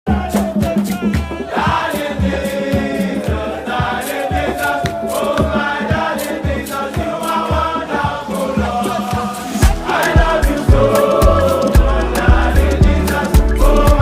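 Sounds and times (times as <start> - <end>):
choral singing: 0.1 - 14.0
steady drum beat: 0.1 - 14.0.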